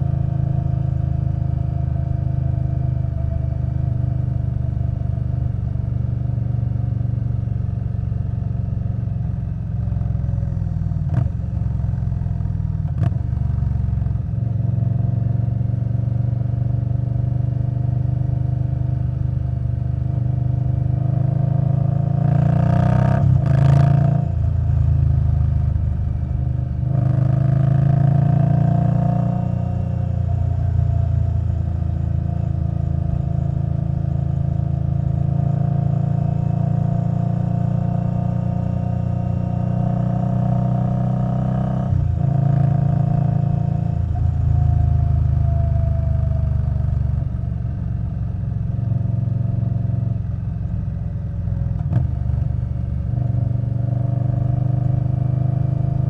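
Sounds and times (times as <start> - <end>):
motorcycle engine at road speed: 0.0 - 56.0.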